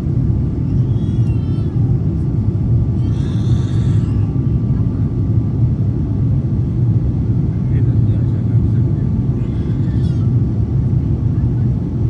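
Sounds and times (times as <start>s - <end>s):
aircraft cabin rumble: 0.0s - 12.0s.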